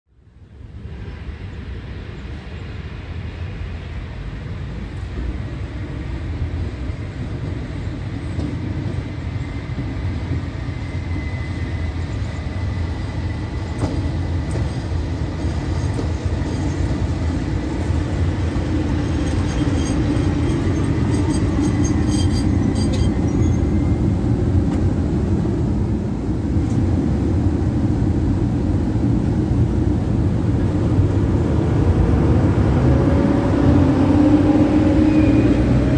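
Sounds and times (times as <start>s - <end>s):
train rumbling: 0.2s - 35.9s.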